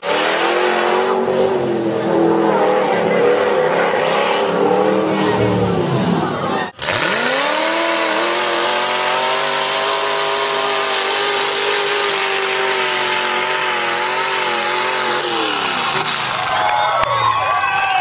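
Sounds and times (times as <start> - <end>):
truck engine revving hard: 0.0 - 16.8.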